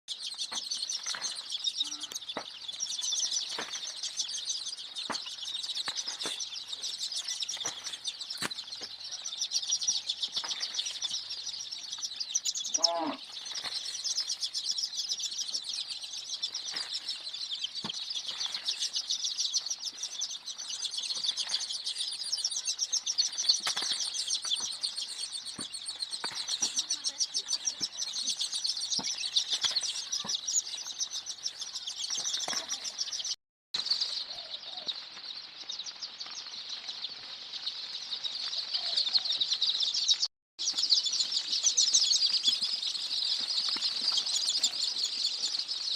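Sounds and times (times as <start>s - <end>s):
chicks peeping: 0.1s - 45.9s.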